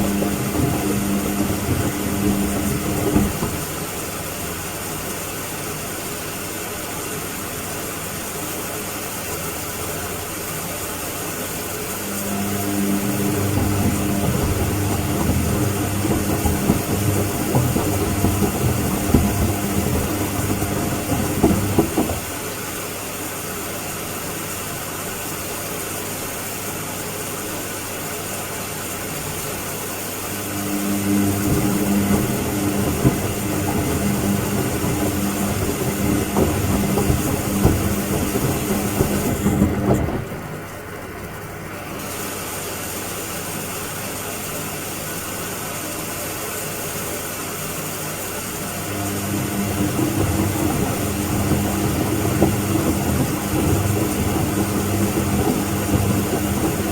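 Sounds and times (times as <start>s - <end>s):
washing machine motor hum: 0.0s - 24.6s, 26.5s - 56.9s.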